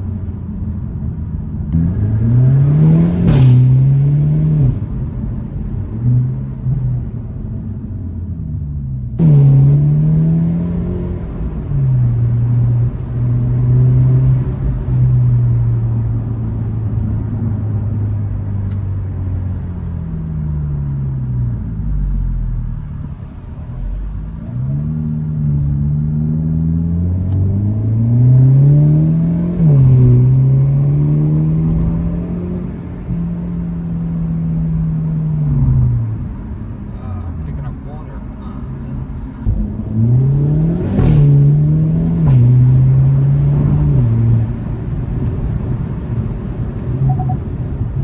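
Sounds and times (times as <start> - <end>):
car engine revving: 1.6 - 7.4, 9.1 - 17.0, 20.1 - 48.0.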